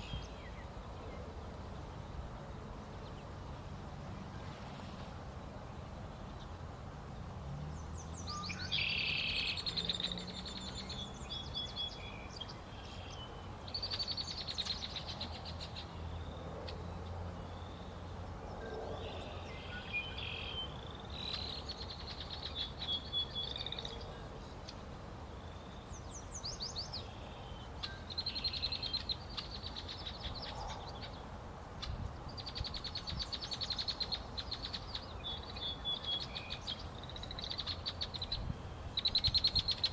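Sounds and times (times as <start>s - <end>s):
songbirds singing: 0.0s - 4.8s, 5.4s - 39.9s.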